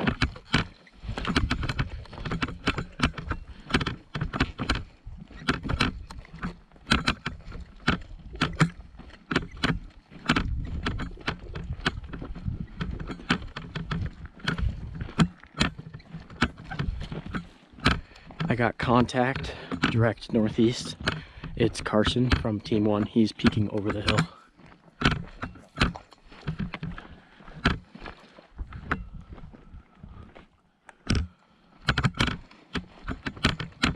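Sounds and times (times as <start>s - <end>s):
crunching footsteps: 0.0s - 33.9s
equipment clicking and rattling: 0.0s - 33.9s.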